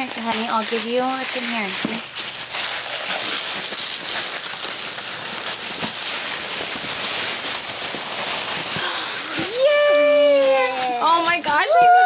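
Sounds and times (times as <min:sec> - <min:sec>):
tissue paper rustling and crinkling: 0:00.0 - 0:12.0.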